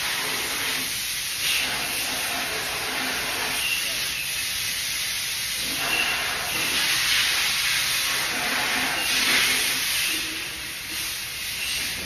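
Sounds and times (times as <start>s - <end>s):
steady hissing noise: 0.0s - 12.0s.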